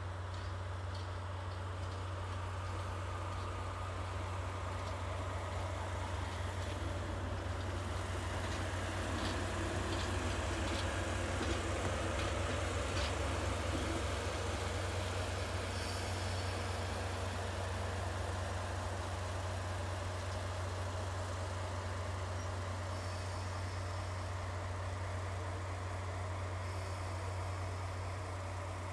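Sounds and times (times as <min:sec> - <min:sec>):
diesel locomotive drone: 0:00.0 - 0:28.9.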